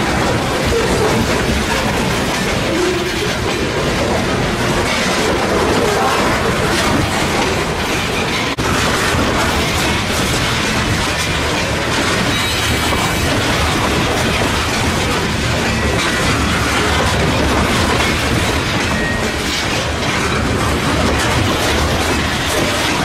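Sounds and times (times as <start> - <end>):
steel wheels running on rails: 0.0 - 23.0.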